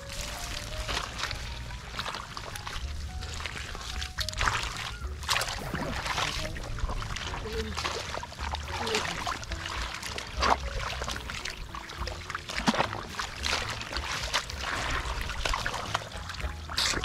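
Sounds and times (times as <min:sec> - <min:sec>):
low steady rumble: 0:00.0 - 0:16.9
splashing in muddy water: 0:00.0 - 0:17.0
wet mud squelching: 0:00.0 - 0:17.0.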